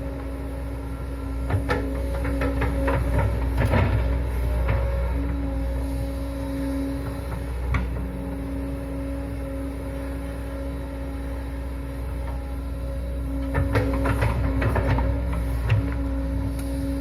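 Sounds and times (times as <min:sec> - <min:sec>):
diesel machinery engine rumbling: 0:00.0 - 0:17.0.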